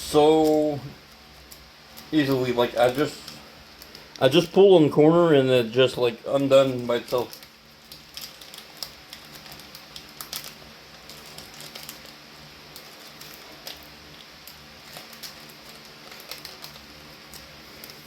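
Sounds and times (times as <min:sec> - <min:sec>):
foil wrapper crackling: 0:00.0 - 0:04.9, 0:05.6 - 0:18.0
faint steady hum: 0:00.0 - 0:18.0.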